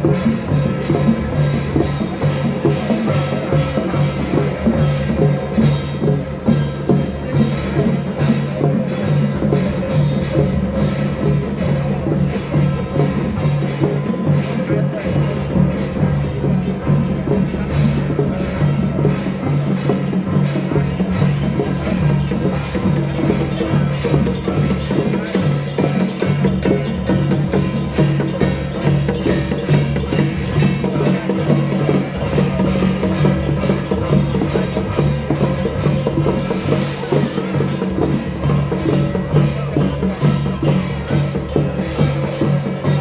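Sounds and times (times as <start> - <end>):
drums: 0.0 - 43.0
wood block percussion: 0.0 - 43.0.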